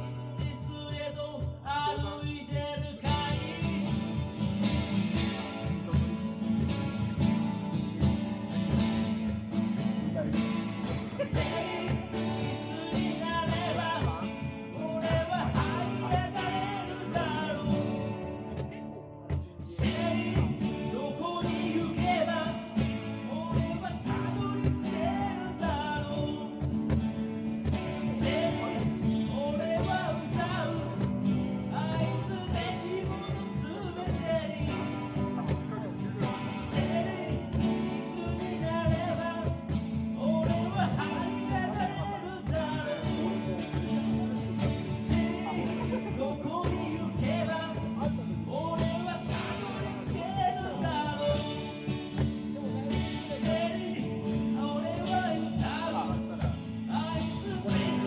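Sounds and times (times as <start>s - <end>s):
cajon beat: 0.0s - 58.0s
man singing a ballad: 0.0s - 58.0s
strummed acoustic guitar: 0.0s - 58.0s.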